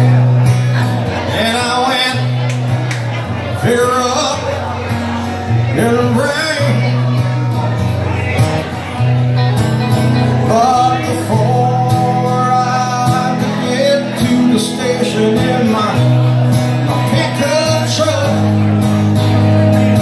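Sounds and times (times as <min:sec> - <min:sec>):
electric guitar melody: 0:00.0 - 0:20.0
strummed acoustic guitar: 0:00.0 - 0:20.0.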